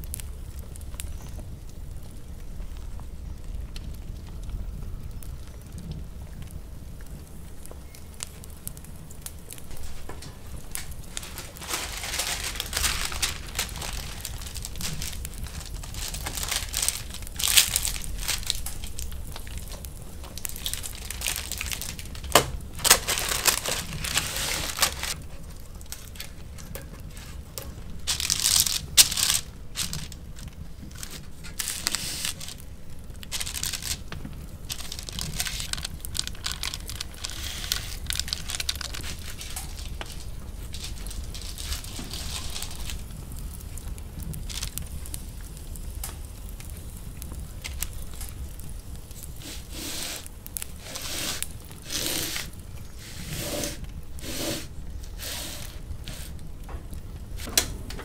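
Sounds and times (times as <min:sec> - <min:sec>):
baking paper crinkling: 0:07.4 - 0:57.9.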